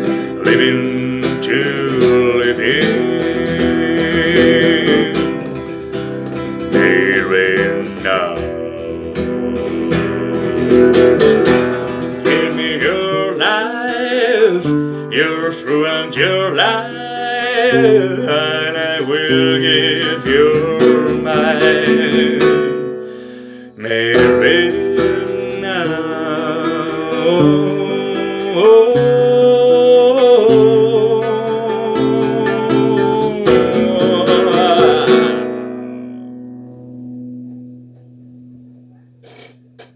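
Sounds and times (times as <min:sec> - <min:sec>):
man singing a ballad: 0:00.0 - 0:36.8
acoustic guitar: 0:00.0 - 0:39.9.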